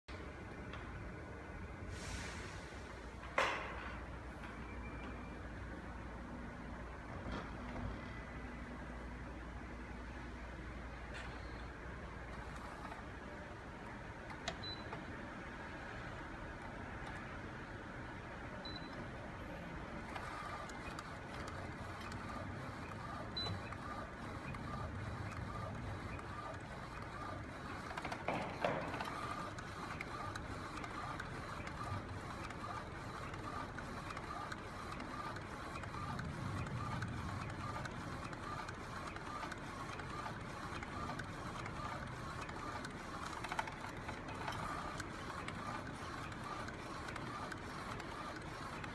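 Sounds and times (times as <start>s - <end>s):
printer carriage whirring: 2.8s - 48.9s.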